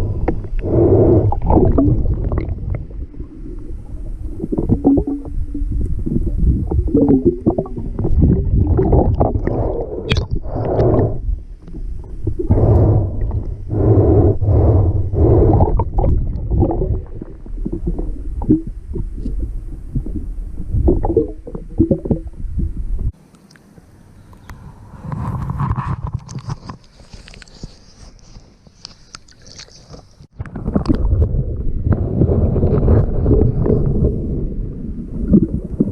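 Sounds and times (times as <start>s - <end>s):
underwater rumbling and gurgling: 0.0s - 23.2s, 30.3s - 35.9s.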